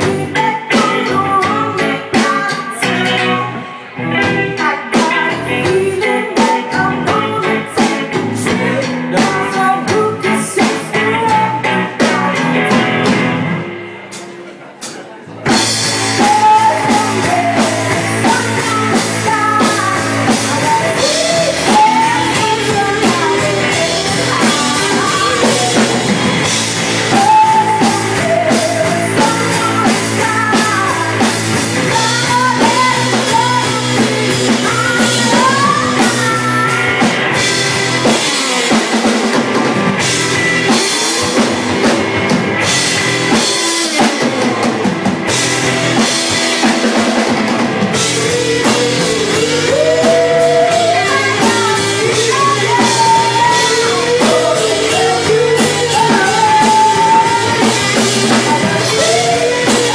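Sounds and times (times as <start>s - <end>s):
woman singing lead: 0.0s - 13.6s, 15.4s - 59.9s
live rock band playing: 0.0s - 59.9s.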